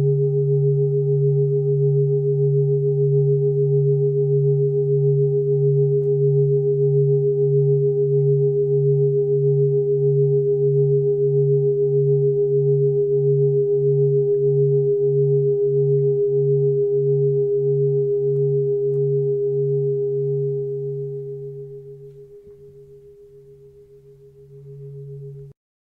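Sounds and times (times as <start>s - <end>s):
singing bowl humming: 0.0s - 25.6s.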